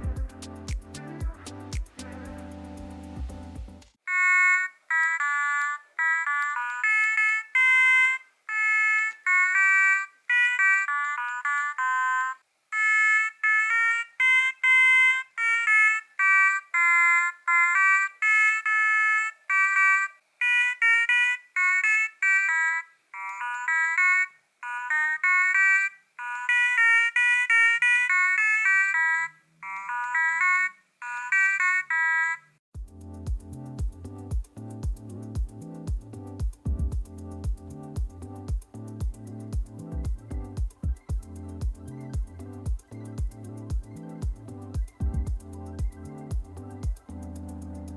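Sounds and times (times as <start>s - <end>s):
electronic beeping melody: 0.0s - 15.6s, 19.5s - 47.9s.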